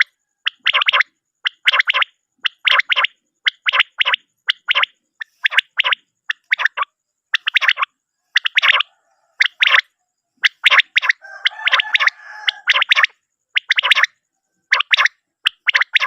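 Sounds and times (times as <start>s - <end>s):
quail calling: 0.0s - 16.0s.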